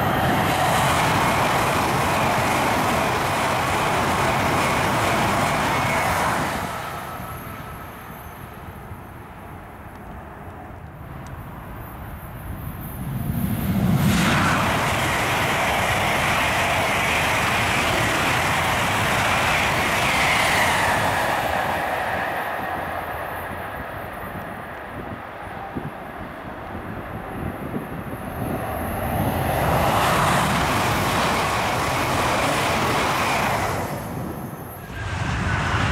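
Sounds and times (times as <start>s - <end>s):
falling whine of train: 0.0s - 35.9s
high-speed train rushing past: 0.0s - 35.9s.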